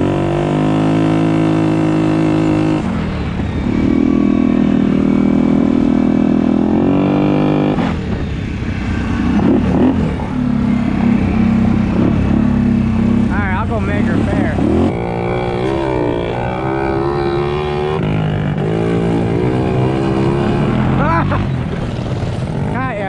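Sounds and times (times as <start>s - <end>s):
mini bike engine revving: 0.0s - 8.1s, 8.8s - 23.0s.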